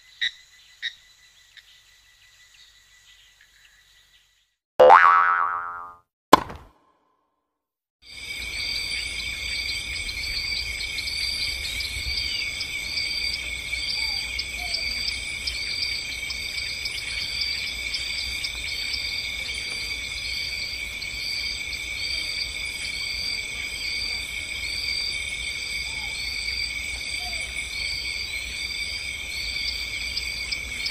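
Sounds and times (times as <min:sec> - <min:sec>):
high insect chorus chirping: 0:00.0 - 0:04.3, 0:08.2 - 0:30.9.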